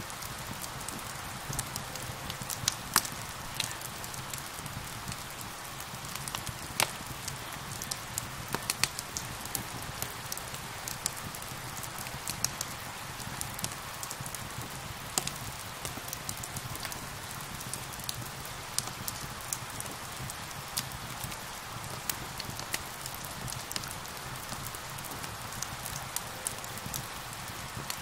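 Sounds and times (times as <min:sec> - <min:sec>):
fireplace fire crackling: 0:00.0 - 0:28.0
rain hissing: 0:00.0 - 0:28.0.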